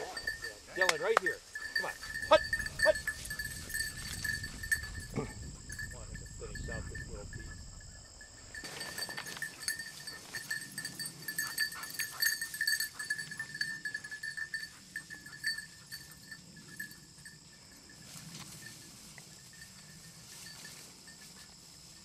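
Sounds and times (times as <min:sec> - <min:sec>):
dog collar bell jingling: 0:00.0 - 0:22.0.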